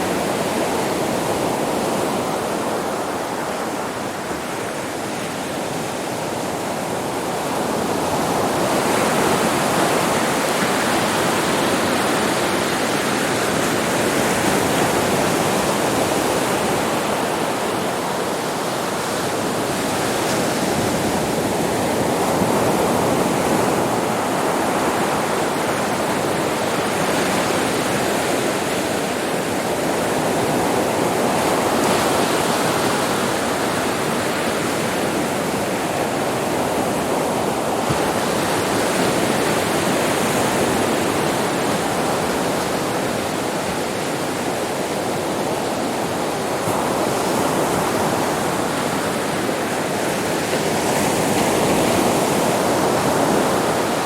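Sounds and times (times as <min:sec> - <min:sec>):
sea waves washing onto beach: 0:00.0 - 0:54.0.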